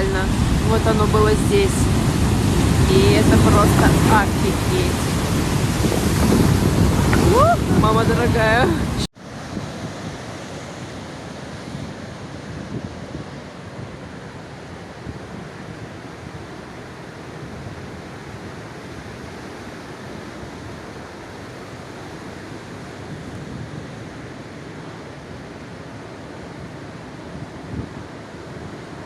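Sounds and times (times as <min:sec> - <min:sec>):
waves surging on shore: 0:00.0 - 0:29.0
wind buffeting microphone: 0:00.0 - 0:29.0.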